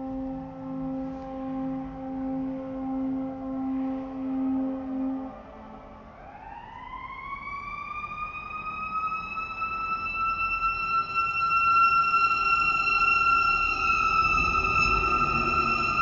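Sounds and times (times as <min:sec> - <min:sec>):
electronic warning siren wailing: 0:00.0 - 0:16.0.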